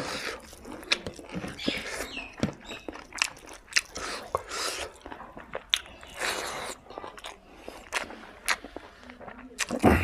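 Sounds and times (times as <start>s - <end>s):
mouth smacks and clicks: 0.0s - 10.0s
person chewing: 0.0s - 10.0s.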